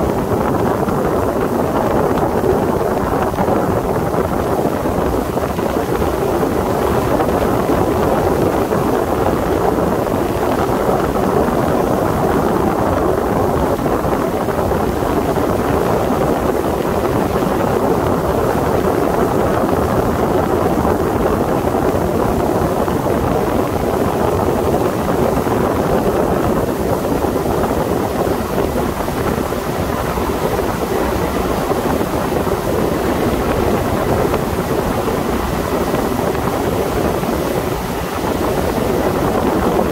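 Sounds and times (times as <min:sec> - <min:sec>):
motorboat engine running: 0:00.0 - 0:39.9
wind buffeting microphone: 0:00.0 - 0:39.9.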